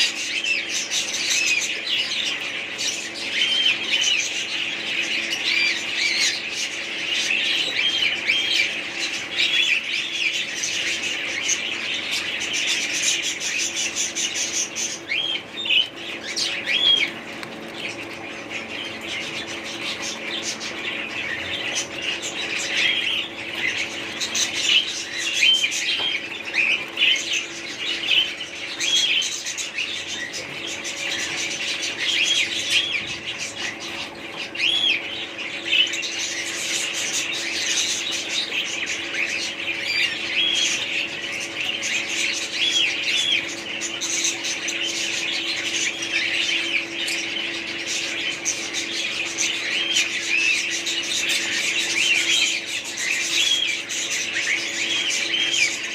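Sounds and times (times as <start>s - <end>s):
small birds chirping and chattering: 0.0s - 55.9s
steady low hum: 0.0s - 55.9s.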